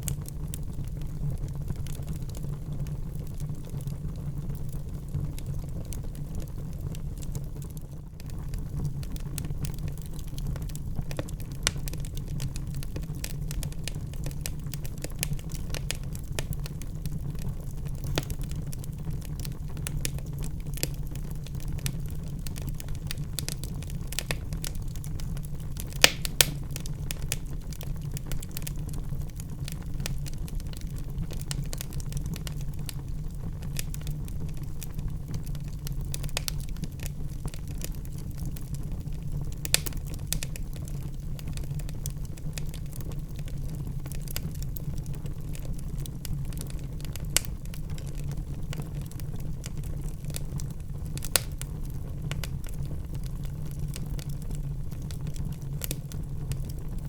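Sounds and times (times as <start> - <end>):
fire crackles and pops: 0.0 - 57.0
fire flames rumbling: 0.0 - 57.0.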